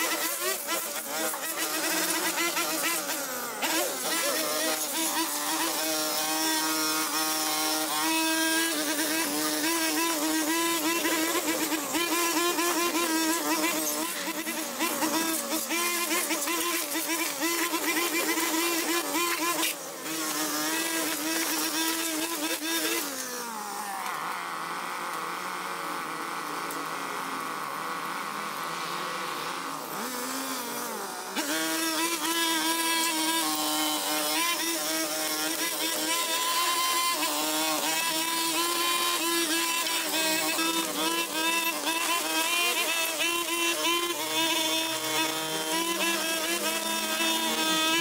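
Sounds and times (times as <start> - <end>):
brush cutter engine whining: 0.0 - 48.0.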